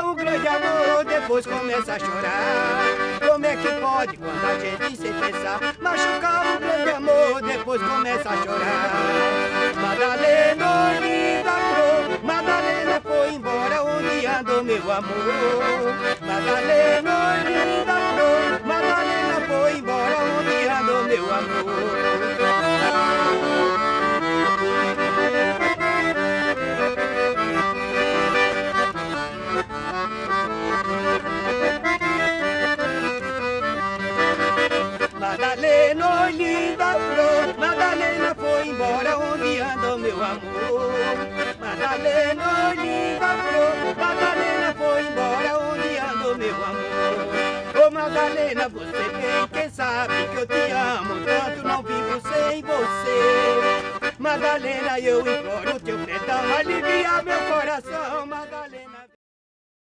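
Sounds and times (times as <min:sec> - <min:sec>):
accordion playing a tune: 0:00.0 - 0:59.2.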